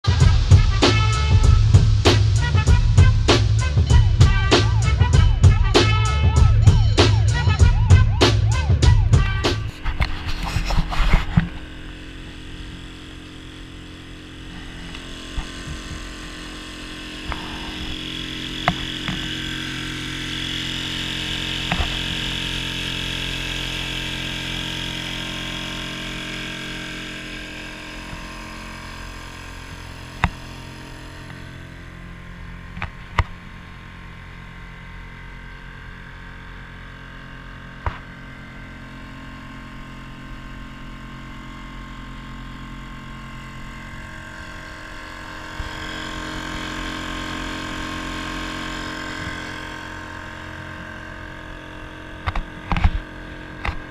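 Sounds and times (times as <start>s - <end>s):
outboard motor running: 0.0s - 53.9s.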